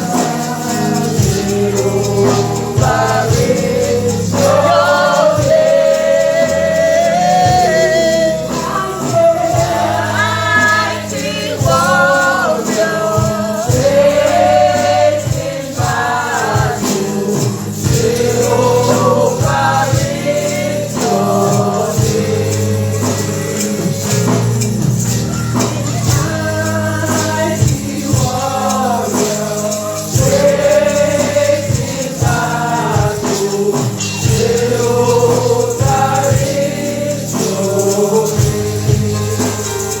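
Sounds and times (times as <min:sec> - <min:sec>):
choir singing: 0:00.0 - 0:40.0
lead singer: 0:00.0 - 0:40.0
tambourine: 0:00.0 - 0:40.0.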